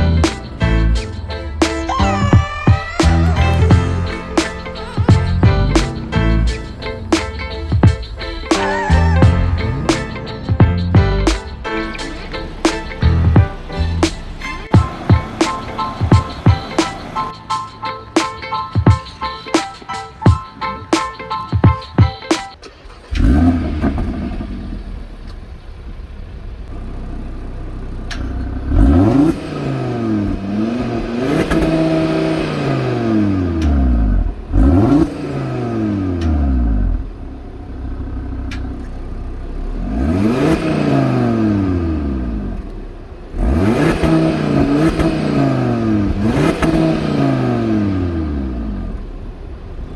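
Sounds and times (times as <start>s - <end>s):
car engine revving: 0.0s - 49.9s
car engine starting: 0.0s - 49.9s.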